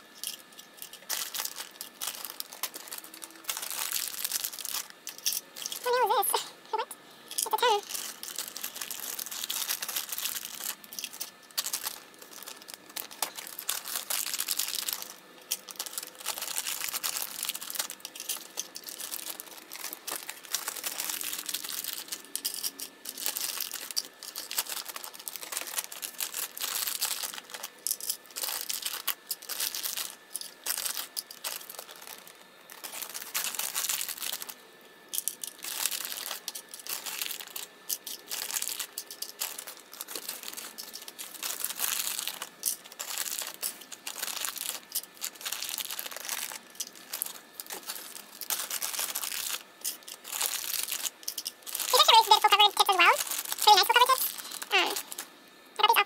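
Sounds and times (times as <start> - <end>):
packaging crinkling: 0.0 - 6.4, 7.4 - 56.0.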